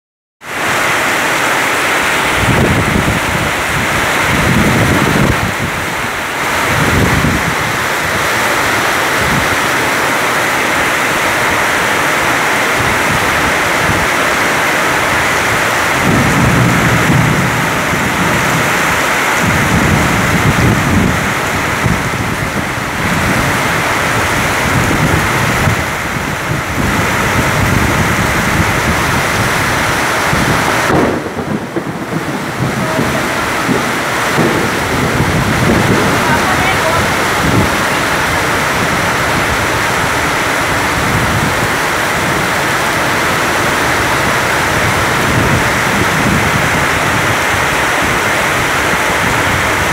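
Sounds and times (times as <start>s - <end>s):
heavy rain pouring: 0.4s - 49.9s
low thunder rumbles: 0.6s - 49.9s.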